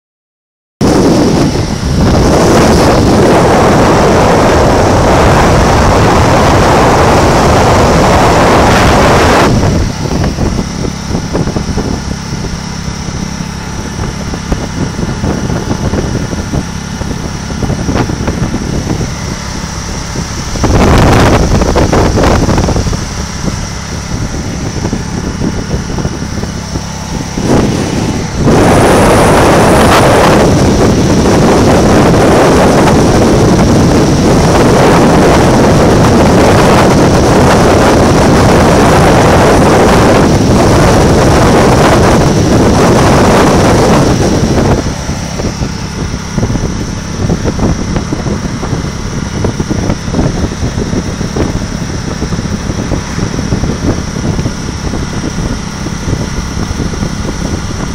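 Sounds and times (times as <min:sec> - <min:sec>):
car road and engine hum: 0:00.8 - 0:57.9
wind rushing over microphone: 0:00.8 - 0:57.9.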